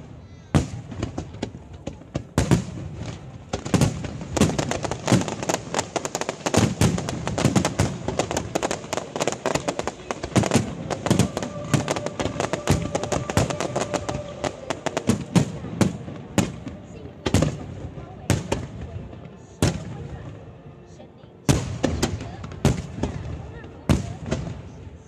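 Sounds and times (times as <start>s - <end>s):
fireworks bangs and crackling: 0.0s - 20.4s, 21.4s - 25.0s.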